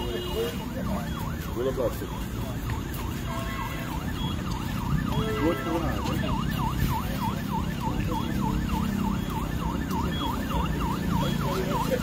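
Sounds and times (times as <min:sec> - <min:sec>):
low rumbling street noise: 0:00.0 - 0:12.0
siren yelping: 0:00.0 - 0:12.0.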